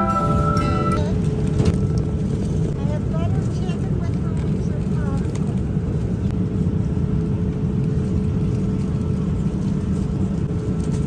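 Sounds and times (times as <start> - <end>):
airliner cabin drone: 0.0 - 11.0.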